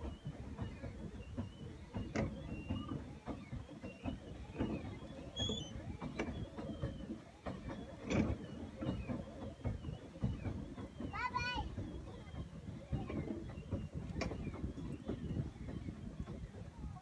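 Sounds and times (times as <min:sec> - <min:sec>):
boat knocks: 0:00.0 - 0:17.0
churning water: 0:00.0 - 0:17.0.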